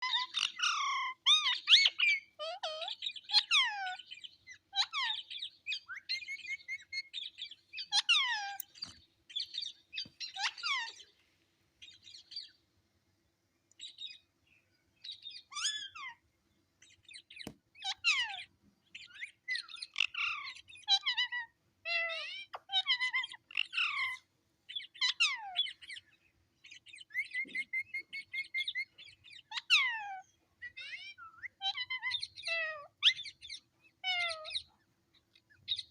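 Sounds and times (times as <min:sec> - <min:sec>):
parrot chirping and squawking: 0:00.0 - 0:11.1, 0:15.0 - 0:16.2, 0:16.8 - 0:34.7.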